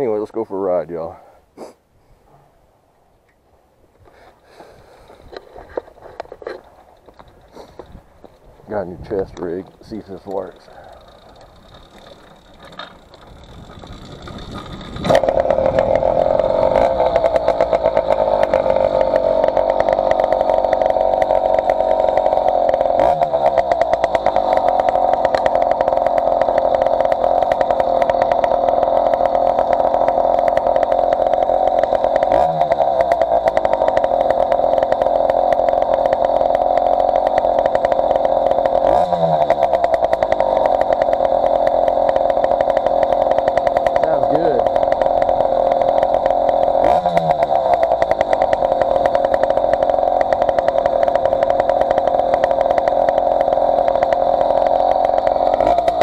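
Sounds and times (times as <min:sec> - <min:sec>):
two-stroke engine buzzing: 0:04.4 - 0:56.0.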